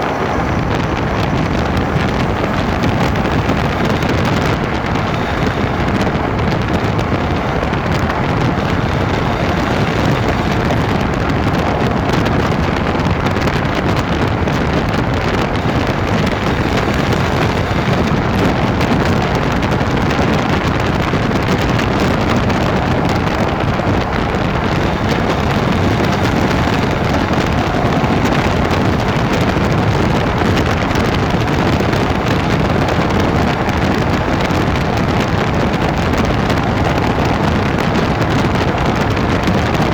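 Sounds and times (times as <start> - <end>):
car rumbling and grinding: 0.0 - 39.9.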